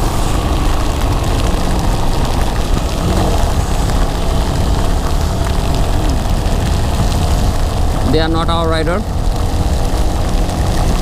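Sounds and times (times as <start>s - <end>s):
wind rushing: 0.0s - 9.7s
heavy rain on microphone: 0.0s - 11.0s
motorcycle engine rumble: 0.0s - 11.0s.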